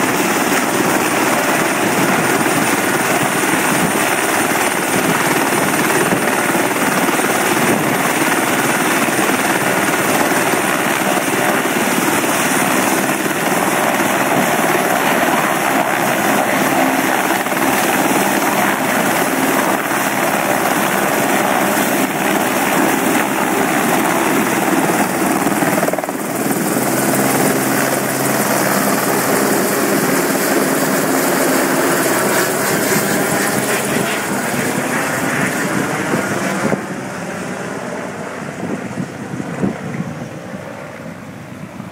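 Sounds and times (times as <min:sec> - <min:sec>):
helicopter running steadily: 0:00.0 - 0:41.9.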